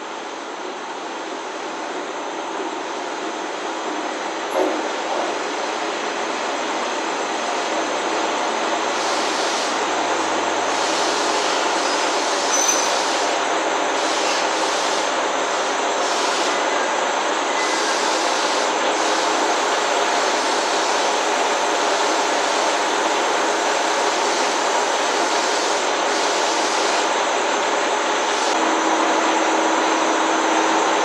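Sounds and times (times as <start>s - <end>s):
train rail noise: 0.0s - 31.0s.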